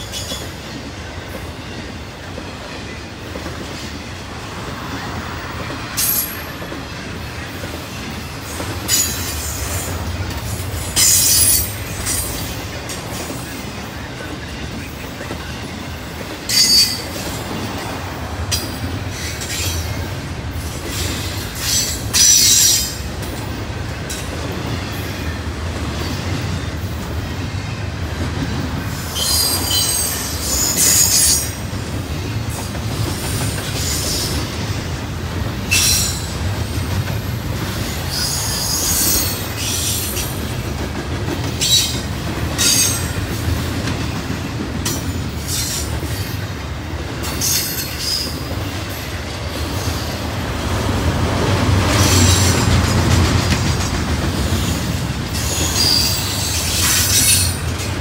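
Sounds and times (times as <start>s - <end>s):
train rumble: 0.0s - 58.0s.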